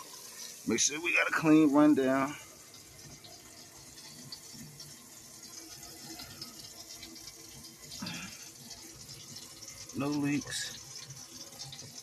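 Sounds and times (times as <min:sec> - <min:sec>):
water running into sink: 0:00.0 - 0:12.0.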